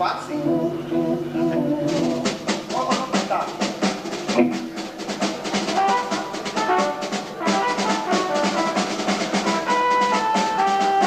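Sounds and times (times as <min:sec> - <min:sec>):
busy drum kit: 0:00.0 - 0:11.0
held melody notes: 0:00.0 - 0:11.0
live rock band playing: 0:00.8 - 0:11.0.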